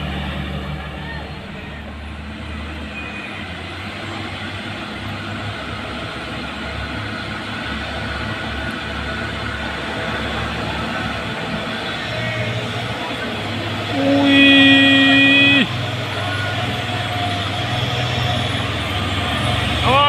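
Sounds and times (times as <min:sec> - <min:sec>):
diesel truck engine pulling uphill: 0:00.0 - 0:20.0.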